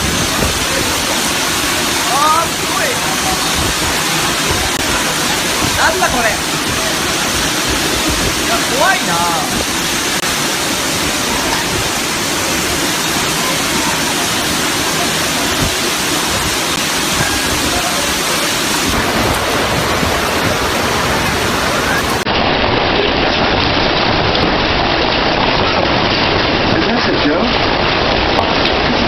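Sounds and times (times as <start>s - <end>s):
heavy rain downpour: 0.0s - 29.0s
rushing water: 0.0s - 29.0s.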